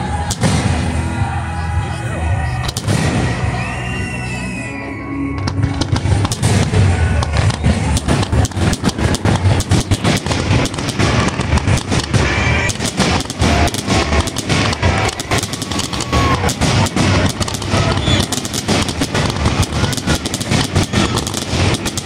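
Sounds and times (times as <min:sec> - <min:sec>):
fireworks launching and bursting: 0:00.0 - 0:22.0.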